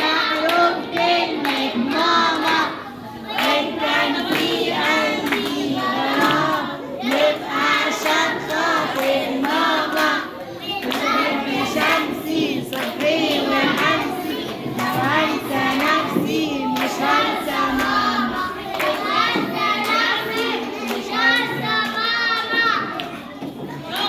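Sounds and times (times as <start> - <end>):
children singing: 0.0 - 24.0.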